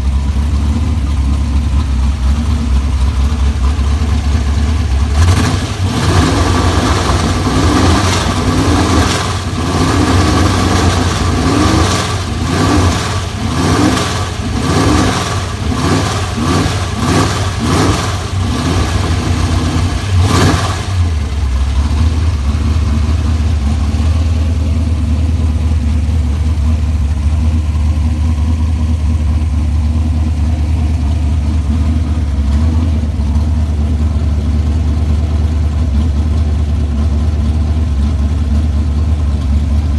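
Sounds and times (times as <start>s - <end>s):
engine revving and idling: 0.0s - 39.9s.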